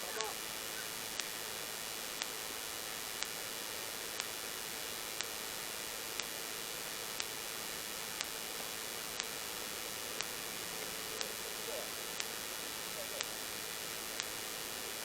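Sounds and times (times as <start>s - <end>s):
static hiss: 0.0s - 15.0s
sharp ticks: 0.1s - 14.6s.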